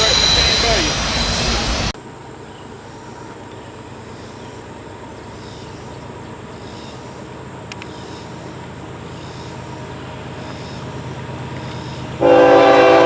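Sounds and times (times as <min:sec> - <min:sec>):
faint steady whine: 0:00.0 - 0:12.7
train rumbling: 0:00.0 - 0:13.0.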